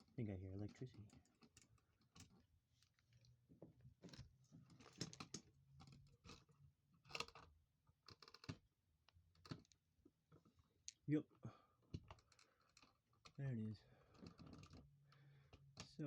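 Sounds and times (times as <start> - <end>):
faint clicks and scrapes of tools: 0.0 - 9.8, 11.8 - 16.0.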